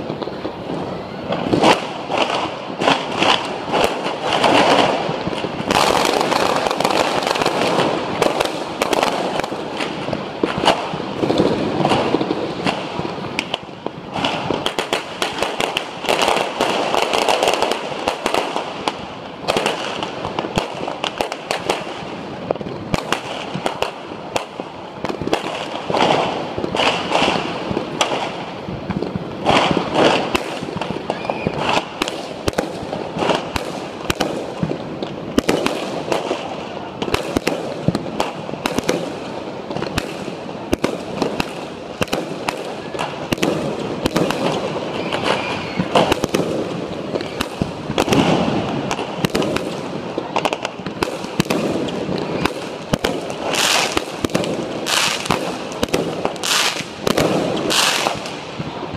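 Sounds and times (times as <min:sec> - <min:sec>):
firecrackers crackling: 0:00.0 - 0:58.9
firework bangs: 0:00.0 - 0:58.9.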